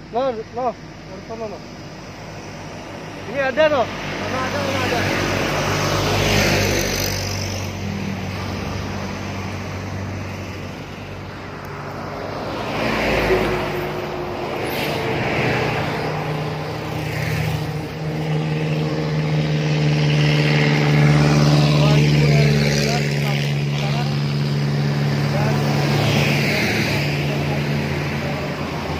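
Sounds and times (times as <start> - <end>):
bus engine approaching: 0.0 - 28.9
trucks and motorcycles passing: 0.0 - 28.9.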